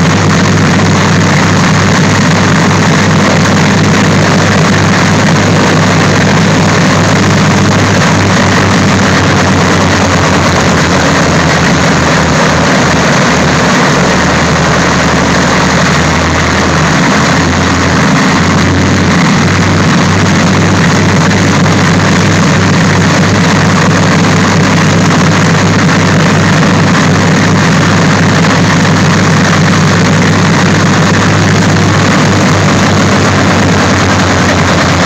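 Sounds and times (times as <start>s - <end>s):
radial piston engines droning: 0.0s - 35.0s.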